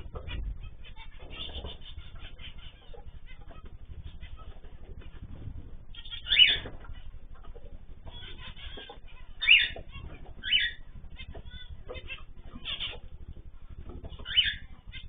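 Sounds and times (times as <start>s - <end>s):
birds chirping softly: 0.0s - 15.0s
low steady hum: 0.0s - 15.0s
birds loud falling calls: 0.1s - 15.0s.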